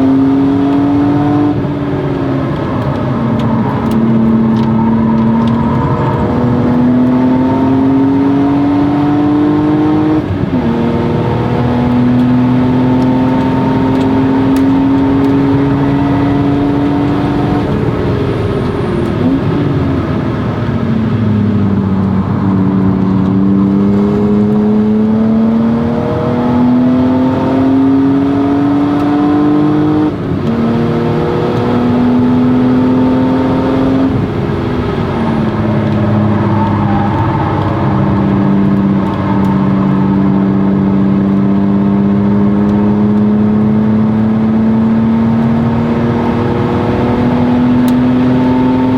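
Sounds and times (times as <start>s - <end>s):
car engine accelerating through gears: 0.0s - 48.9s.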